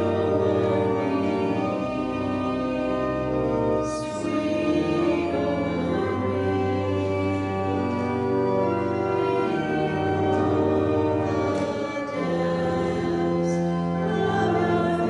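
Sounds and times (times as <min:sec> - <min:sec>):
church organ playing hymn: 0:00.0 - 0:15.0.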